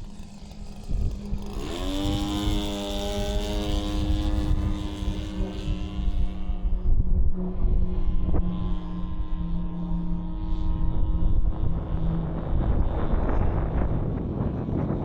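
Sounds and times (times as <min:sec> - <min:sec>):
model airplane engine revving: 0:00.0 - 0:14.8.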